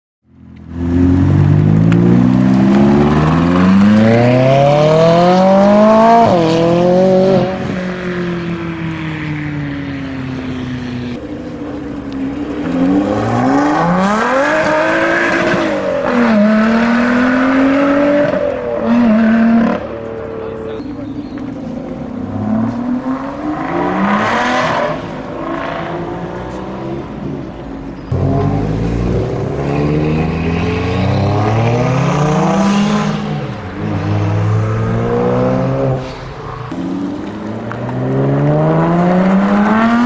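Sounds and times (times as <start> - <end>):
sports cars accelerating: 0.4 - 40.0.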